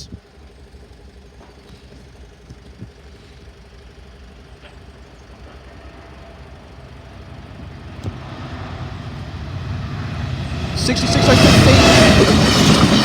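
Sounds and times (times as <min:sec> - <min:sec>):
diesel locomotive engine: 0:00.0 - 0:13.0.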